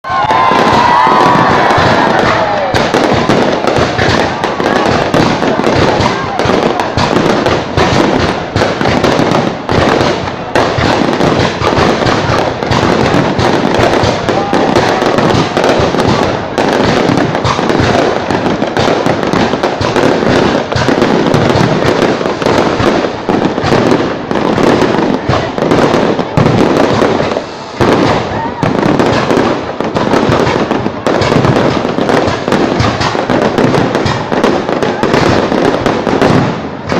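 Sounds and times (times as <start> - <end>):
fireworks bangs and crackles: 0.0 - 36.9
people's voices: 0.0 - 36.9.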